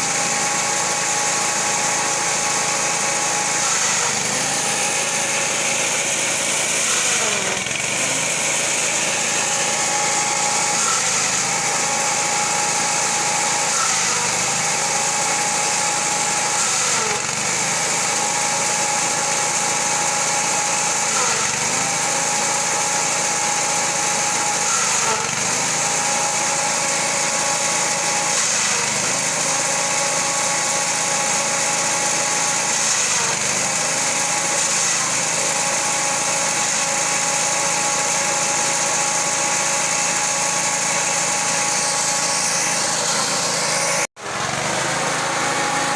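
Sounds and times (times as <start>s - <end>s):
grass chopper engine running: 0.0s - 45.9s.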